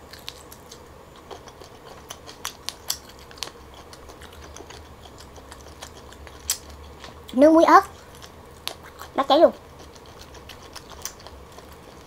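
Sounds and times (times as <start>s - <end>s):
chewing prawn with wet clicks: 0.0s - 12.0s.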